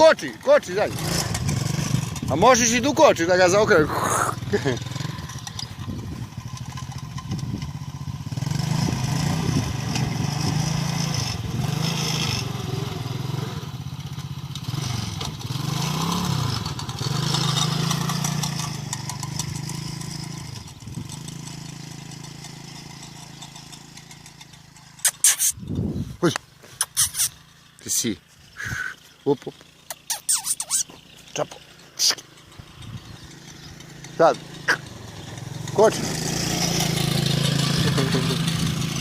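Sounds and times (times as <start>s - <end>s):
quad bike engine revving: 0.0s - 39.0s.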